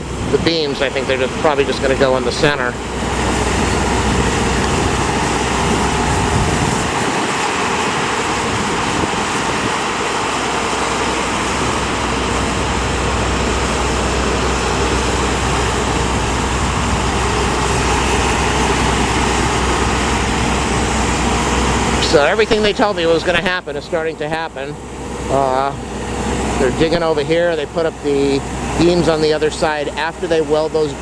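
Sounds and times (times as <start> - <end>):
construction equipment engines: 0.0 - 31.0
road traffic passing: 0.0 - 31.0.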